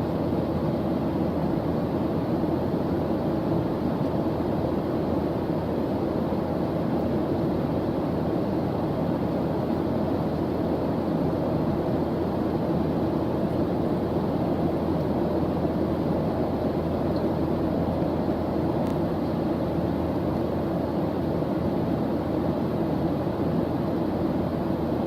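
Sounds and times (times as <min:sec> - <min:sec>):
steady white noise: 0:00.0 - 0:25.0.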